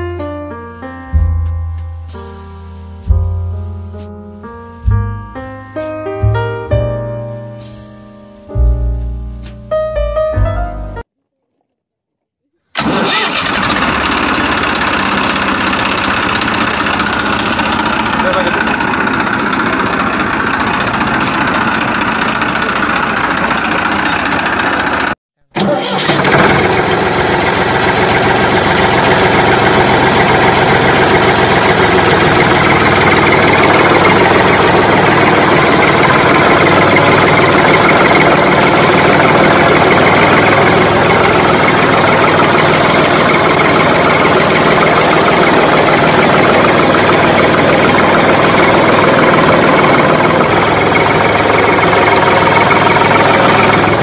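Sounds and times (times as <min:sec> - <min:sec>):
tractor engine running: 0:00.0 - 0:07.9, 0:12.8 - 0:54.0.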